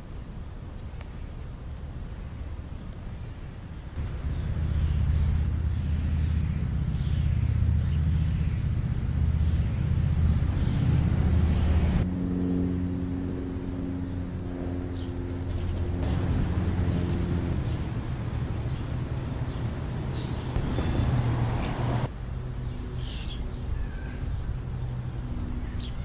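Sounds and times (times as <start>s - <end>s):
vehicle engine rumble: 0.0s - 26.0s
birds chirping: 0.8s - 26.0s.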